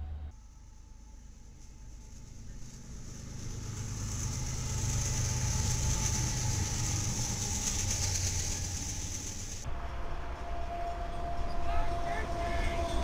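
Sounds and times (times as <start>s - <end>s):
diesel locomotive engine rumble: 0.0s - 13.0s
wheels hissing on rail: 0.4s - 13.0s.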